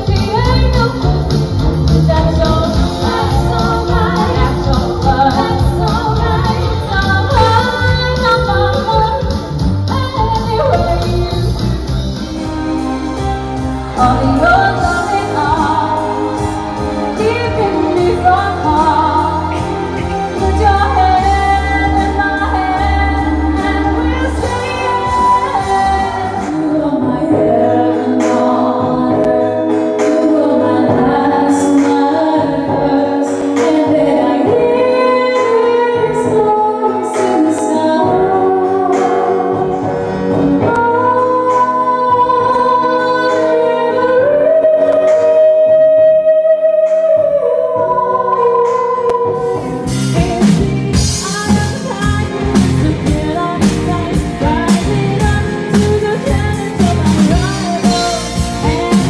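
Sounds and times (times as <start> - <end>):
live band playing up-tempo: 0.0 - 59.0.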